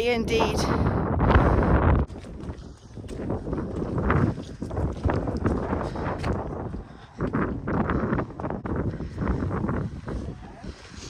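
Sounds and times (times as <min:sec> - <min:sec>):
wind buffeting microphone: 0:00.0 - 0:11.0
walking footsteps: 0:02.1 - 0:11.0.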